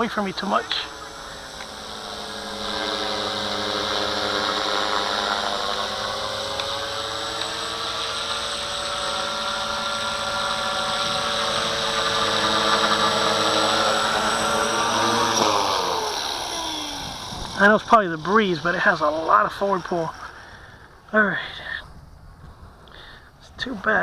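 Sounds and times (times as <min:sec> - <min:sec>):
rc helicopter motor whine: 0:00.0 - 0:23.2.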